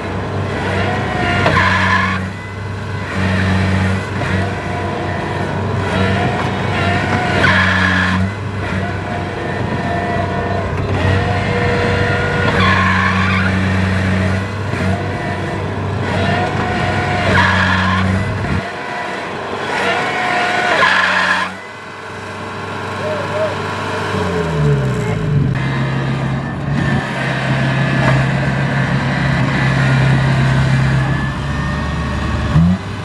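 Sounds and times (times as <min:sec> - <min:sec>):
diesel engine running hard: 0:00.0 - 0:33.0.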